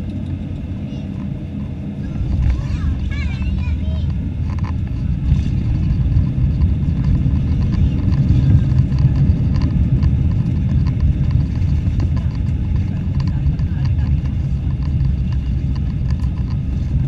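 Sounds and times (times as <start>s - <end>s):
jet engine reverse thrust rumble: 0.0s - 17.0s.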